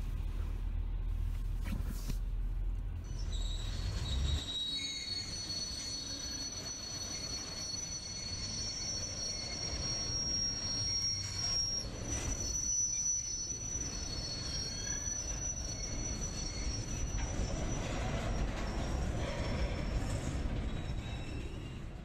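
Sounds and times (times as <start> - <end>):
train wheels squealing: 3.0 - 22.0.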